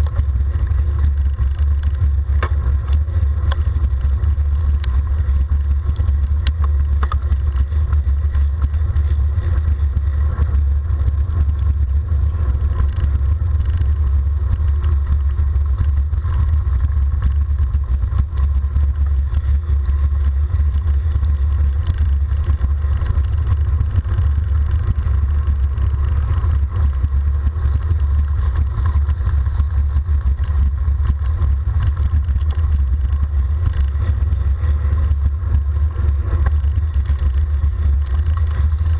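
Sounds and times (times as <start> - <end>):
faint road noise: 0.0 - 38.9
wind rumble on microphone: 0.0 - 38.9.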